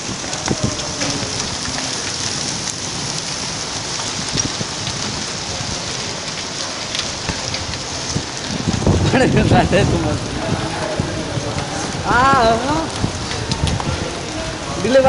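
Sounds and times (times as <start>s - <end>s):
rain and hail falling on ground: 0.0s - 15.0s.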